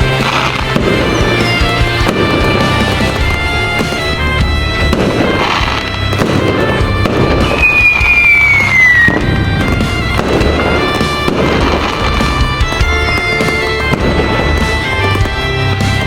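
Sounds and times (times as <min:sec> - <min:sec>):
fireworks crackling: 0:00.0 - 0:16.0
music playing: 0:00.0 - 0:16.0
firework whistle falling in pitch: 0:00.8 - 0:16.0.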